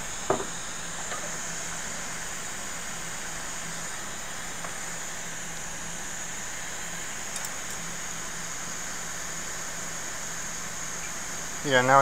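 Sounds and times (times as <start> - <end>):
fan-like hum and hiss: 0.0 - 12.0.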